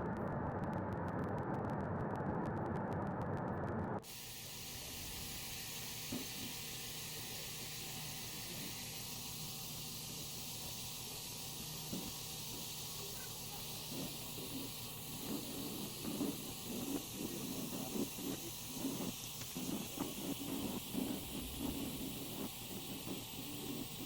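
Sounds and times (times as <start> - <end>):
steady hiss: 4.0 - 24.0.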